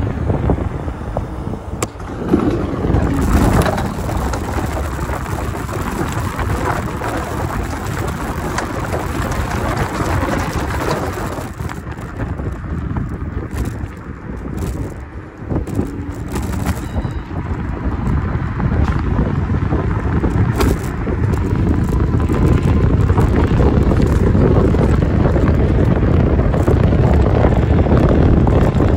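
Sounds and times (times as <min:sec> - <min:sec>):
tyres rumbling on pavement: 0:00.0 - 0:28.9
wind buffeting microphone: 0:00.0 - 0:28.9
wheels rattling over wooden planks: 0:01.7 - 0:28.9.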